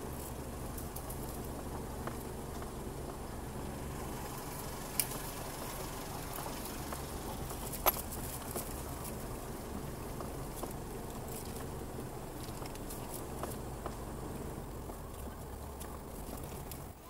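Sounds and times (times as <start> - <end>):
tyres crackling over dirt: 0.0 - 17.0
vehicle engine hum: 0.0 - 17.0.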